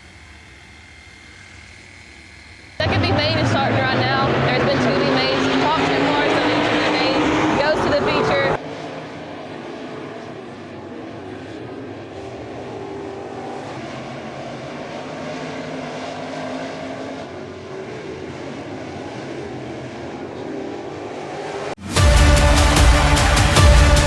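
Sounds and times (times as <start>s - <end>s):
distant race car engines droning: 0.0s - 24.0s.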